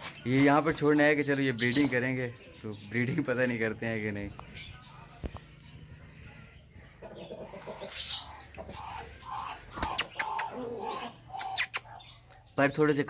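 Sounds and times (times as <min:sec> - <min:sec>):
birds cooing and chirping: 0:00.0 - 0:13.0.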